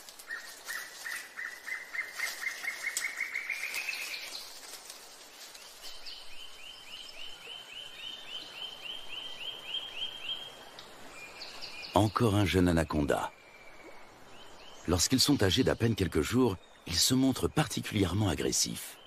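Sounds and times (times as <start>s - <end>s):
bird song series of notes: 0.2s - 19.0s.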